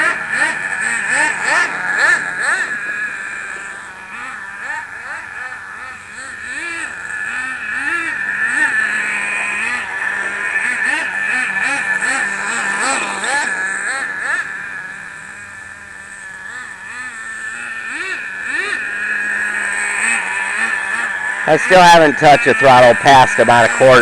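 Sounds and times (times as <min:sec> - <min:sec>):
rc car engine whining: 0:00.0 - 0:24.0.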